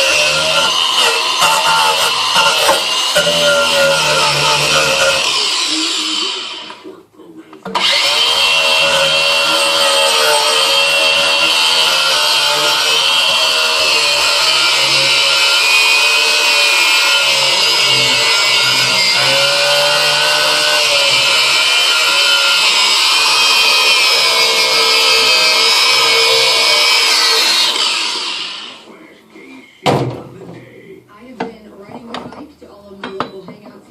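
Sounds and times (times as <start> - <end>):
angle grinder wire brush whine: 0.0 - 6.8, 7.7 - 28.9.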